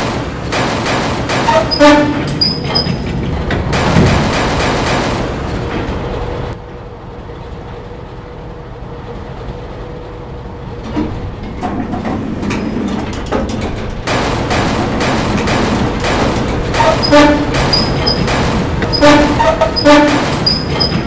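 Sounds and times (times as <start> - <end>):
locomotive machinery clanking: 0.0 - 6.6, 10.6 - 21.0.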